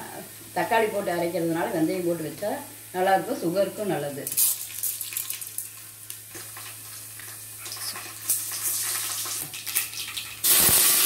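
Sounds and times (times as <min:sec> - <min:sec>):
loud sizzle in hot oil: 0:00.0 - 0:11.0
seeds crackling in hot oil: 0:00.0 - 0:11.0.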